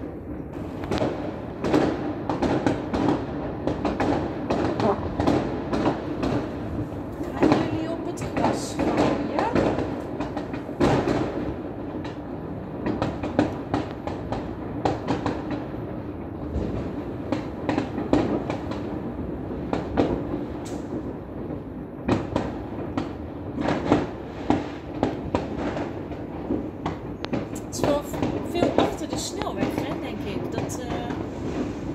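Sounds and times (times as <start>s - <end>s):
firecrackers banging: 0.0s - 31.9s
rumble of distant explosions: 0.0s - 31.9s.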